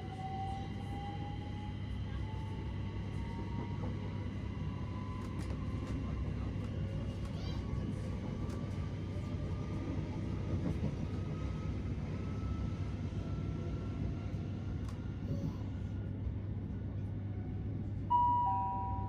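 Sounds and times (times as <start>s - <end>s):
train wheels rumbling on track: 1.5s - 18.0s.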